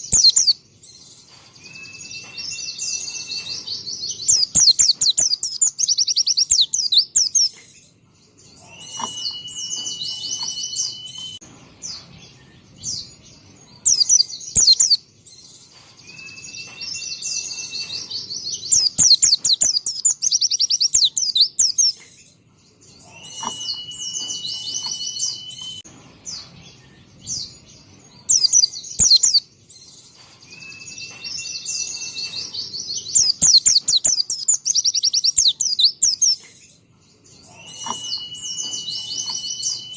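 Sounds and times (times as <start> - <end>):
bird twittering trills: 0.0 - 39.9.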